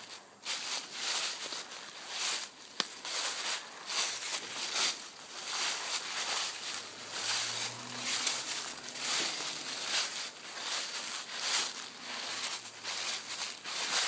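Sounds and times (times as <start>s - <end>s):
footsteps on dry leaves: 0.0s - 14.0s.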